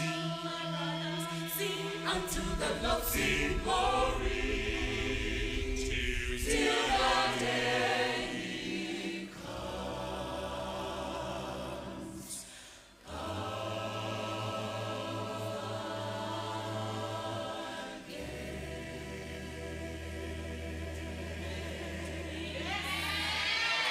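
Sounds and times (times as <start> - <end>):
choir singing held chords: 0.0 - 23.9.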